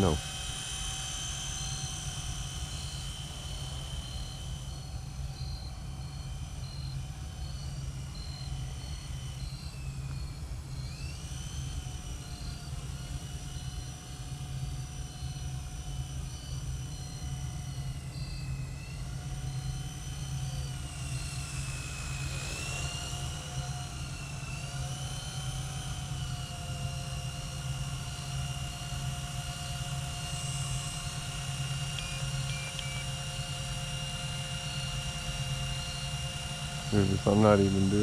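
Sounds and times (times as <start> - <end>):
rc helicopter motor and rotors whining: 0.0 - 38.0.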